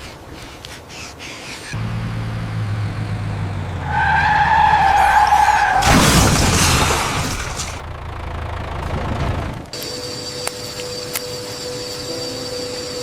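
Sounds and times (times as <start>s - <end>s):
vehicle motor humming: 1.8s - 12.8s.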